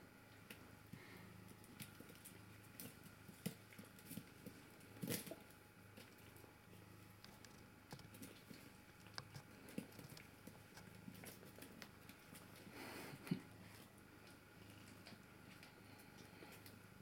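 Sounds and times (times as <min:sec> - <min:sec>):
kittens' paws scratching and scuffing: 0:01.4 - 0:16.8.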